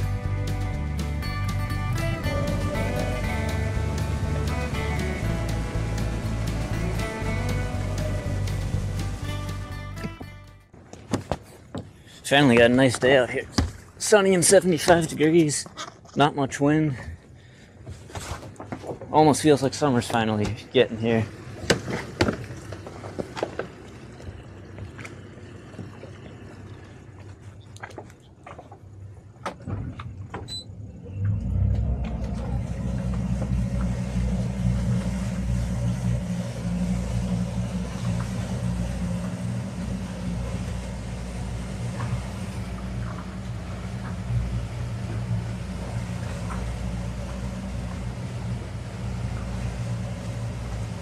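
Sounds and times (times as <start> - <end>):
boat engine rumbling: 0.0 - 51.0.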